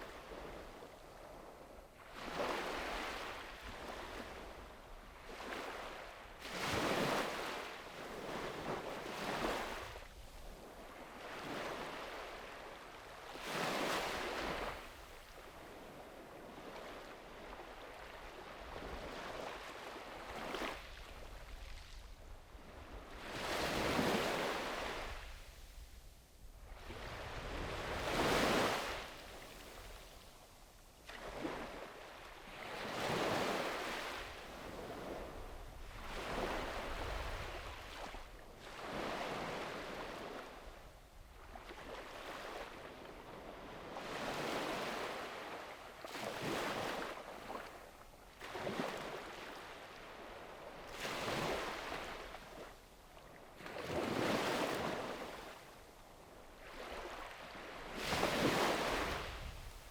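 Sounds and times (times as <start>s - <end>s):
small waves breaking on beach: 0.0s - 59.9s.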